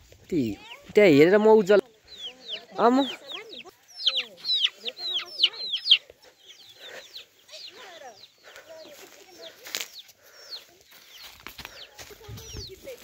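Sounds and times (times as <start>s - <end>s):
chicks cheeping: 0.4s - 13.0s
hens clucking: 0.4s - 13.0s.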